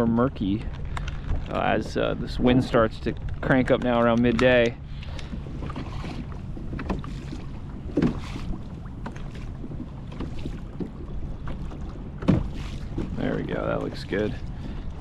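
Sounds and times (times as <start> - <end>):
wind rumbling on microphone: 0.0 - 15.0
water slapping plastic hull: 0.6 - 15.0.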